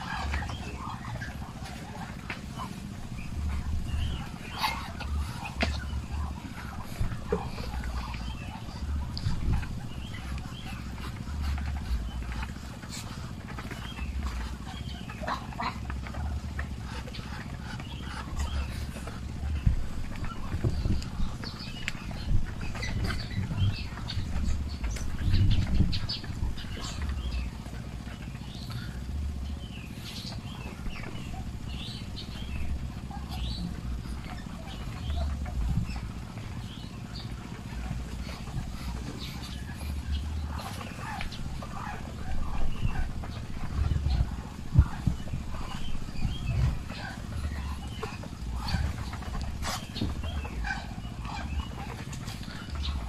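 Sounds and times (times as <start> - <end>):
birds chirping: 0.0 - 53.0
ducks calling: 0.0 - 53.0
low uneven rumble: 0.0 - 53.0.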